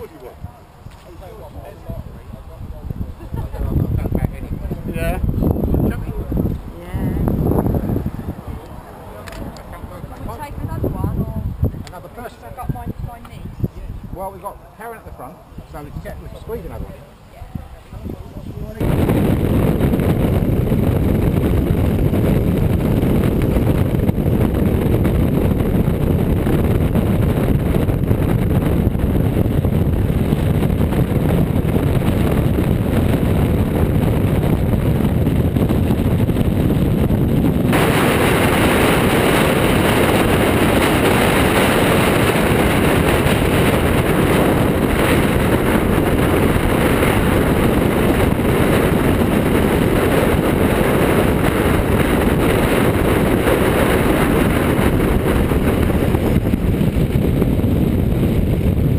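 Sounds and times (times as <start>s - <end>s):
wind rushing over camera: 0.0s - 58.9s.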